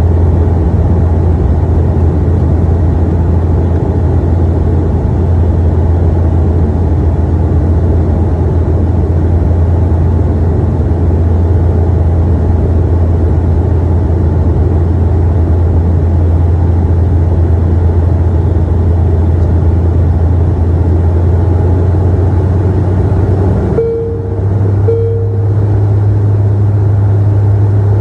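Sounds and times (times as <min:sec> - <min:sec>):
engine rumble: 0:00.0 - 0:28.0
propeller drone: 0:00.0 - 0:28.0.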